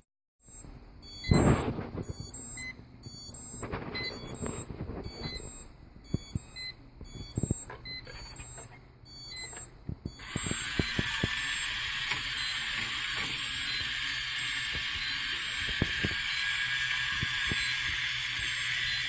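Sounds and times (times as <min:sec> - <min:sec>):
drone high-pitched beeping: 0:00.4 - 0:19.0.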